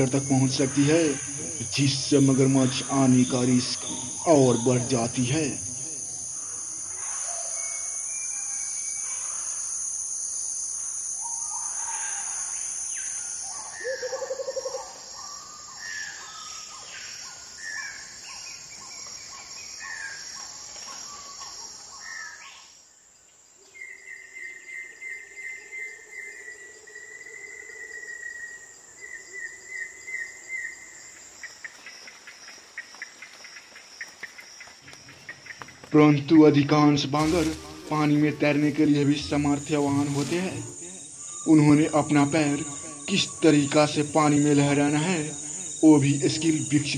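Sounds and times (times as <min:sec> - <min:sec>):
high insect drone: 0:00.0 - 0:46.9.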